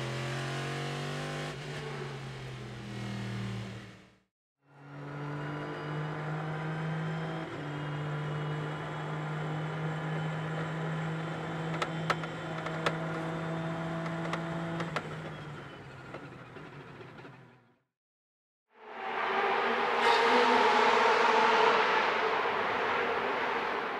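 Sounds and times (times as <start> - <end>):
race car engine from cockpit: 0.0 - 17.7, 19.0 - 23.9.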